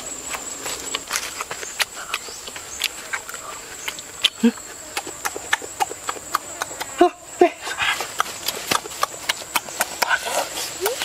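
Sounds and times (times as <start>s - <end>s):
rustles: 0.0s - 5.6s, 7.6s - 11.0s
insects droning: 0.0s - 11.0s.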